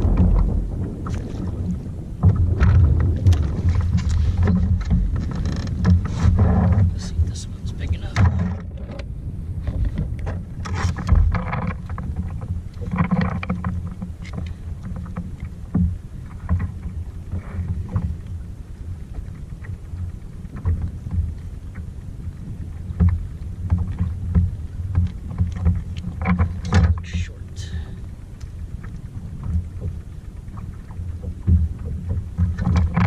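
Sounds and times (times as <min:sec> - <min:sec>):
water sloshing against hull: 0:00.0 - 0:33.0
wind rumbling on microphone: 0:00.0 - 0:33.0.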